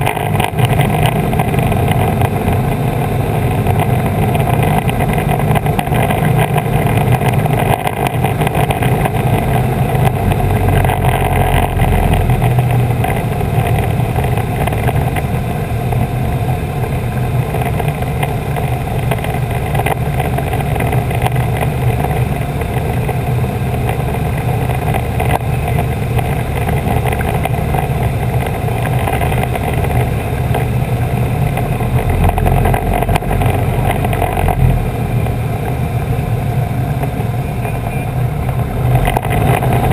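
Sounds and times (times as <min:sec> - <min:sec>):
propeller plane engine: 0:00.0 - 0:39.9.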